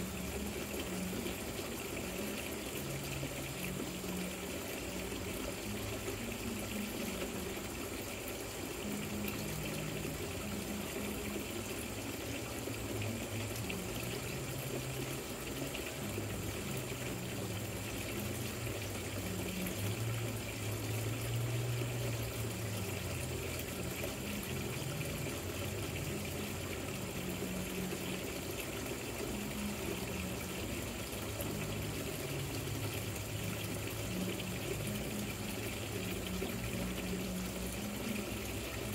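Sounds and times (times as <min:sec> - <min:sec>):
water running down fountain: 0:00.0 - 0:38.9.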